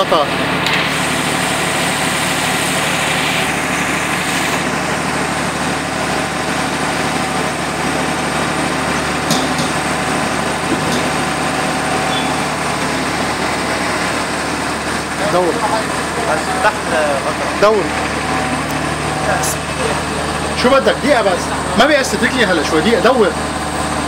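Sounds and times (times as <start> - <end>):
machinery whirring hum: 0.0 - 24.0.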